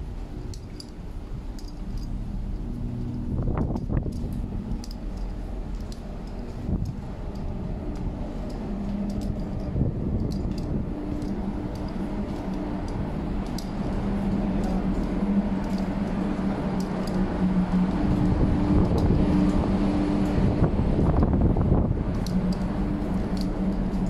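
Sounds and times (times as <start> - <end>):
ship machinery rumbling and humming: 0.0 - 24.0.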